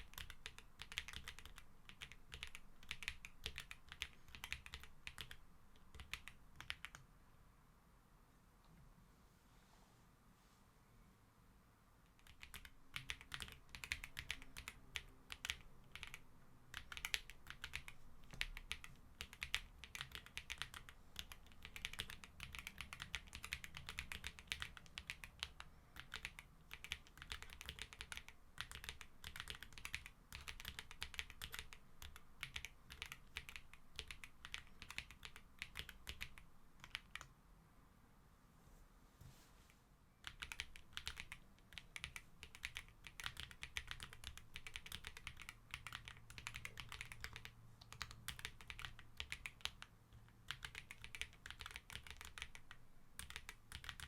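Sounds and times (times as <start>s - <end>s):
mechanical keyboard typing: 0.0s - 7.0s, 12.2s - 37.3s, 40.2s - 54.0s.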